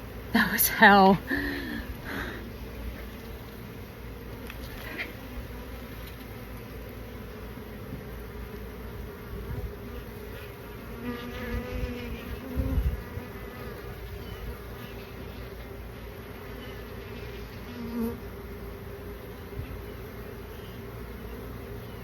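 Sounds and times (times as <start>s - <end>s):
bees flying close past: 0.0s - 22.0s
honeybees buzzing: 0.0s - 22.0s.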